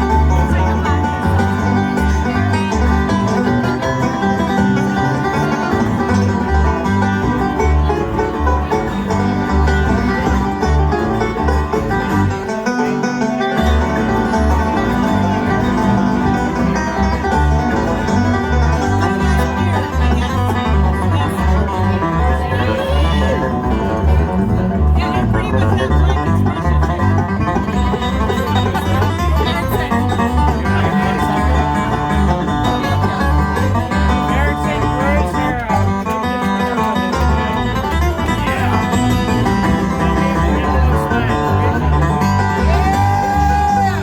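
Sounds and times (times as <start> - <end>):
banjo and guitar picking: 0.0 - 44.0
bass line: 0.0 - 44.0.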